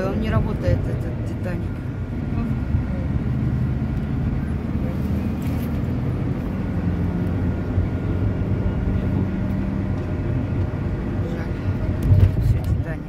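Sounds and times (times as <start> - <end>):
engine and tyres rumbling on road: 0.0 - 13.0
engine hum: 0.0 - 13.0.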